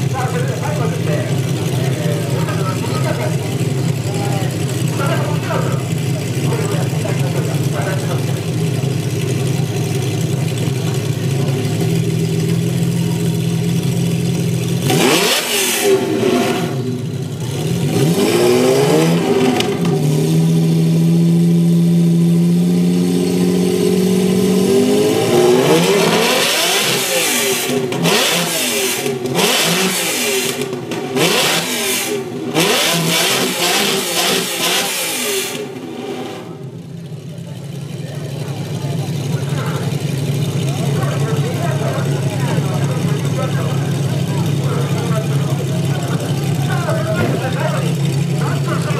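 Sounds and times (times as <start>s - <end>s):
sports car engine revving: 0.0s - 48.9s.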